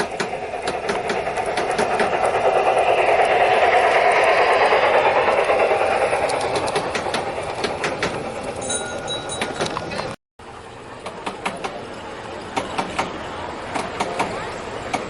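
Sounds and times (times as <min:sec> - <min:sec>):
model train whirring rattle: 0:00.0 - 0:15.0.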